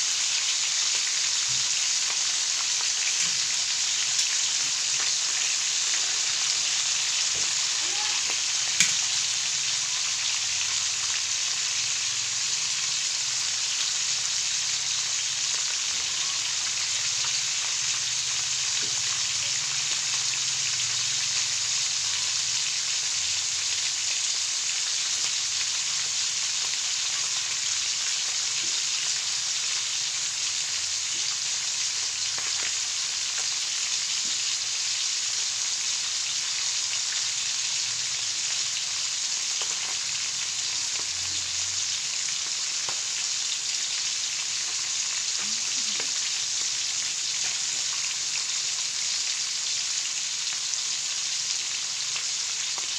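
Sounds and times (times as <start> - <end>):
fish sizzling in hot oil: 0.0 - 52.9.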